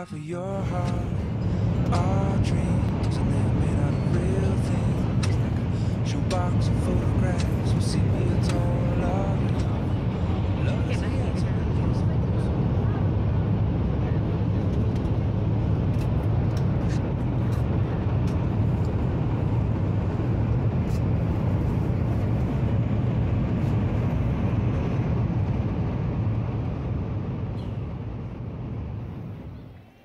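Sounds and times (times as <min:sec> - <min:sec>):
train car low rumble: 0:00.0 - 0:30.0.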